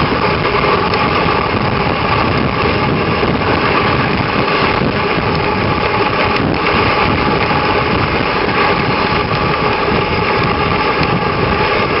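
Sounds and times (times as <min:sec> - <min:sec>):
sled runners sliding on snow: 0:00.0 - 0:12.0
wind buffeting microphone: 0:00.0 - 0:12.0.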